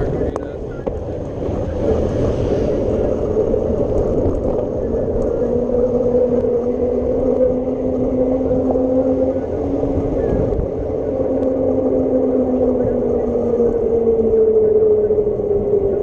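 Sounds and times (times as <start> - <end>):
bicycle road rumble: 0.0 - 16.0
low hum: 0.0 - 16.0
wind: 0.0 - 16.0.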